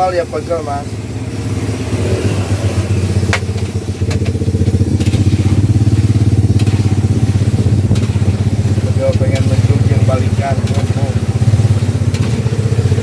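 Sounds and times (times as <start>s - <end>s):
motorcycle engine idling: 0.0s - 13.0s
metal skimmer scraping a wok: 0.9s - 13.0s.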